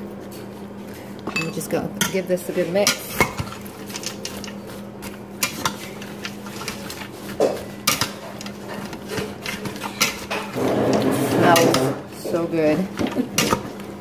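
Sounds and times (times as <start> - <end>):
metal spoon stirring in pot: 1.5 - 13.8.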